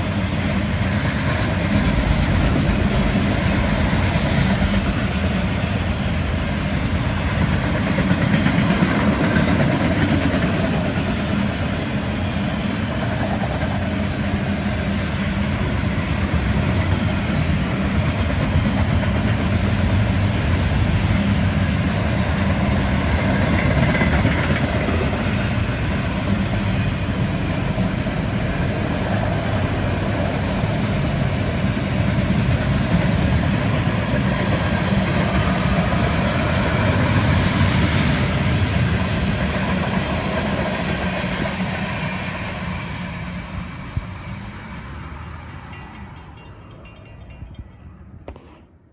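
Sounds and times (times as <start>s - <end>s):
train wheels on rails: 0.0s - 48.7s.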